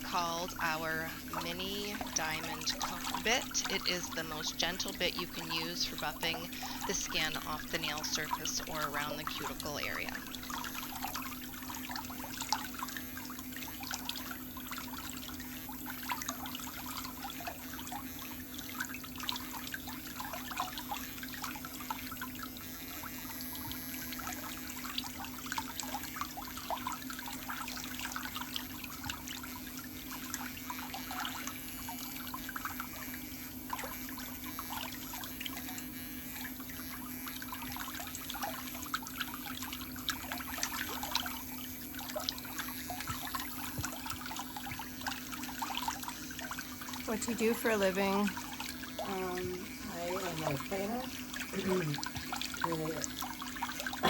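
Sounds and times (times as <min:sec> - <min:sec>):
electric nail drill buffing: 0:00.0 - 0:54.0.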